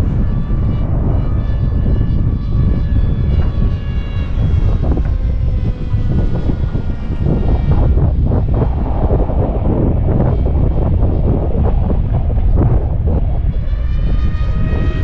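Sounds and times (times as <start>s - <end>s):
electric motor propeller whining: 0.0s - 15.0s
wind noise on microphone: 0.0s - 15.0s.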